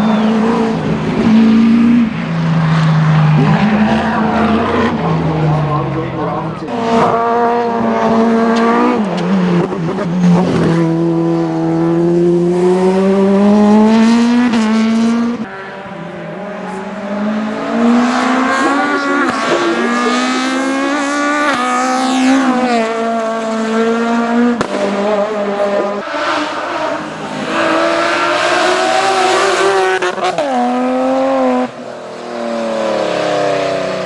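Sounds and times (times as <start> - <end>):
race car engine at full throttle: 0.0 - 34.0.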